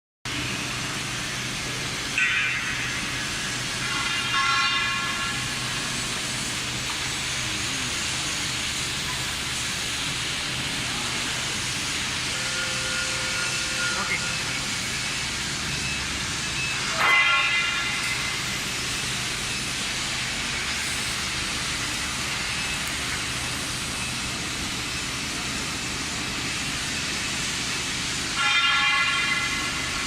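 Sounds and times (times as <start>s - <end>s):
low machinery hum: 0.3s - 30.0s
steady hiss: 0.4s - 30.0s.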